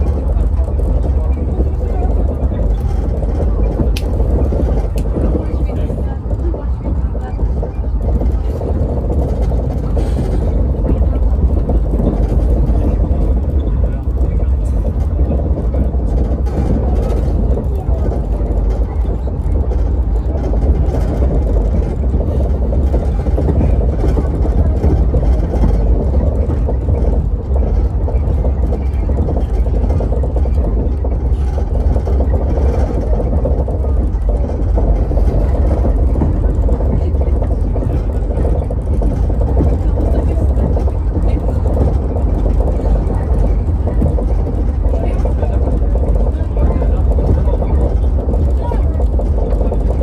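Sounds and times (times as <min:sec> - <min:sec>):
faint voices: 0:00.0 - 0:50.0
train rumbling: 0:00.0 - 0:50.0.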